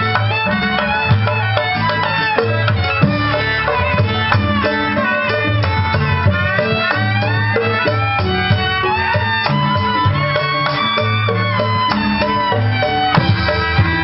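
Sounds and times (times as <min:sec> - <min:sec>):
hand drums: 0:00.0 - 0:14.0.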